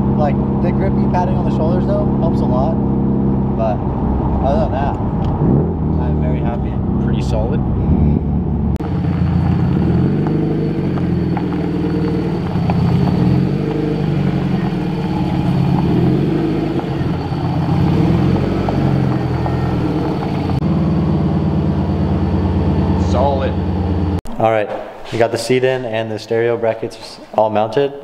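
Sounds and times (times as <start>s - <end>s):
car engine running at low revs: 0.0s - 24.2s.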